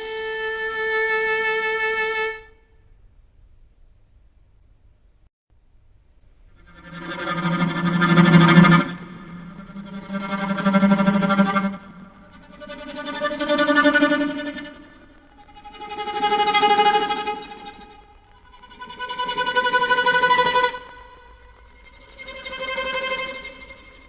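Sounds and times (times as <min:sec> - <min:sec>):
bowed string long notes: 0:00.0 - 0:02.6, 0:06.6 - 0:24.0.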